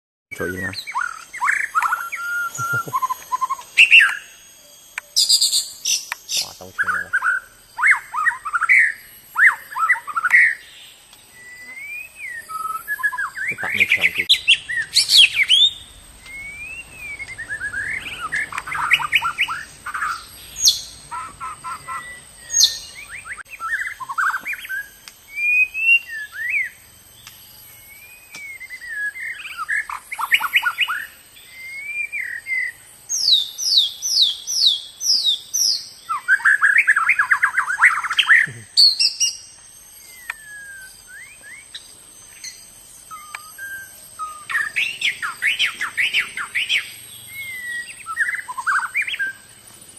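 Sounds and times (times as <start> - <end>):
songbird singing whistles and rattles: 0.7 - 49.6.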